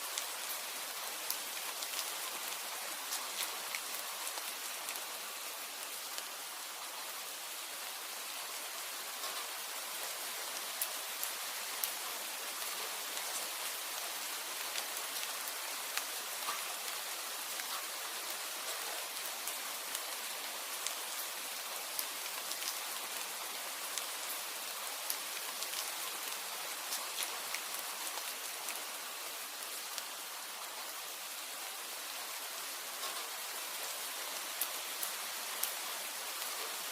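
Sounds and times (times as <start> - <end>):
sharp rain ticks: 0.0 - 36.9
steady rain falling: 0.0 - 36.9.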